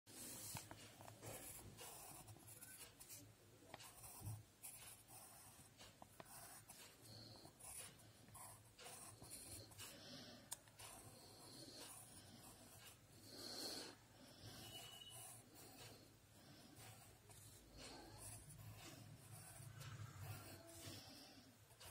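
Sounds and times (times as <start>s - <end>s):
pencil scratching on paper: 0.1s - 21.9s.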